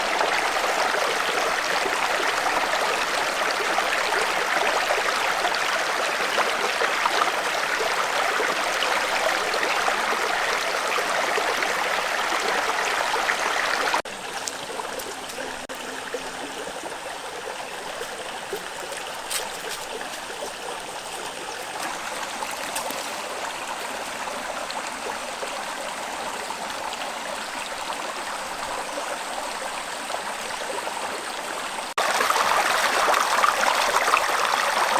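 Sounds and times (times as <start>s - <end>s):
stream water running: 0.0s - 34.9s.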